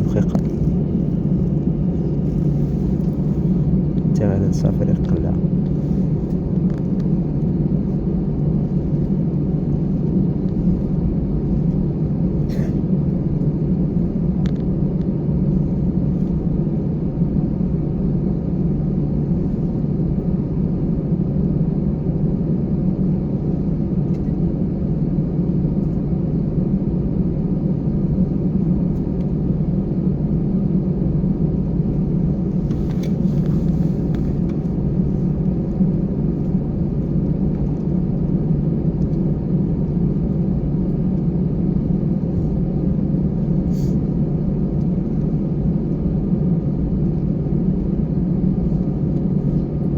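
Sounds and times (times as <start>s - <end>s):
airliner engines rumbling in cabin: 0.0s - 49.9s.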